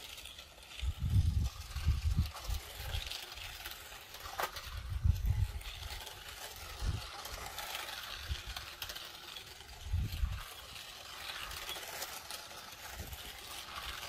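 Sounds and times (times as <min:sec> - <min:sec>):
toy car electric motor: 0:00.0 - 0:14.0.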